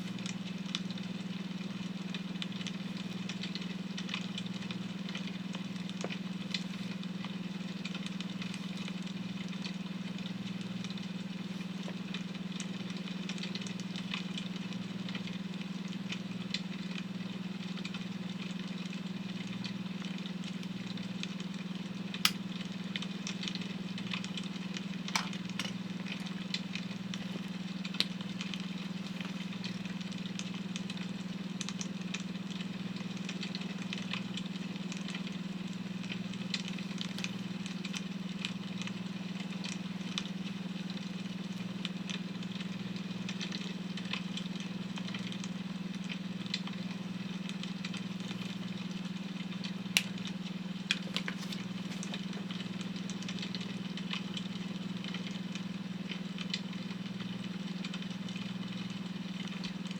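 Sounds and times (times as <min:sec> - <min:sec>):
wood fire crackling and popping: 0:00.1 - 0:59.9.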